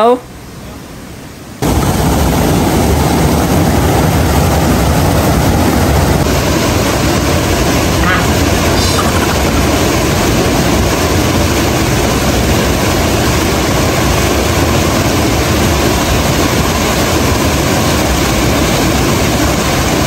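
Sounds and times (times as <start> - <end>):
waterfall rushing over rocks: 3.5 - 20.0.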